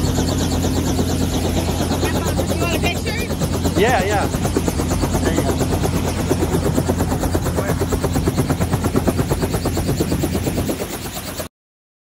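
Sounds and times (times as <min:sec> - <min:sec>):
helicopter engine hum: 0:00.0 - 0:11.5
helicopter rotor blades beating: 0:00.0 - 0:11.5.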